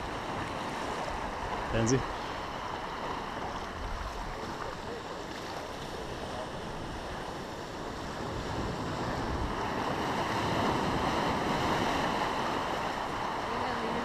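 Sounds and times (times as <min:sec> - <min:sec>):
sea waves surging through rocks: 0:00.0 - 0:14.0.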